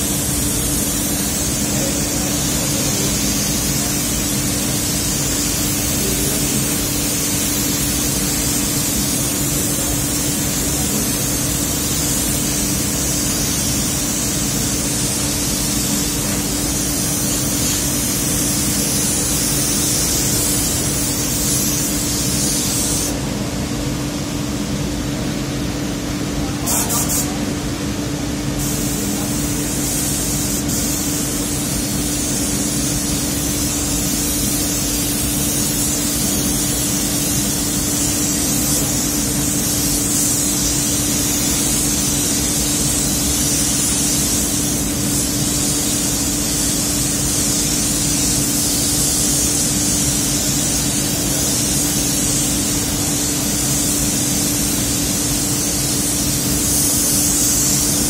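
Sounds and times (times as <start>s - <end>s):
paint spray gun hissing: 0.0s - 23.3s, 26.6s - 27.5s, 28.6s - 58.0s.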